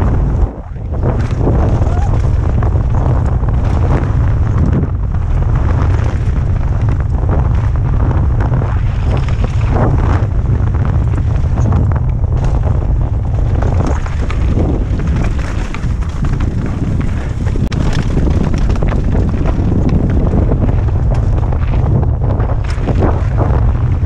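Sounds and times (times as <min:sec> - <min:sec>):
wind buffeting microphone: 0:00.0 - 0:24.0
tyres crunching over stones: 0:00.9 - 0:24.0.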